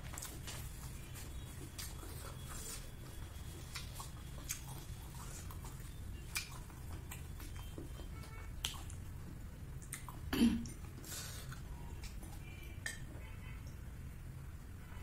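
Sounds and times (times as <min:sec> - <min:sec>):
wet chewing with mouth clicks: 0:00.0 - 0:13.8.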